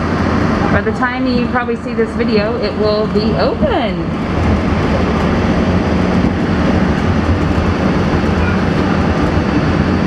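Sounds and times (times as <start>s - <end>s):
moving vehicle rumble and hum: 0.0s - 10.0s.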